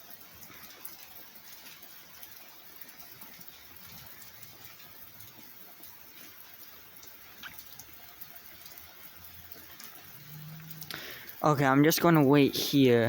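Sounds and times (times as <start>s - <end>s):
light rain hiss: 0.0s - 13.0s
water drips: 0.0s - 13.0s.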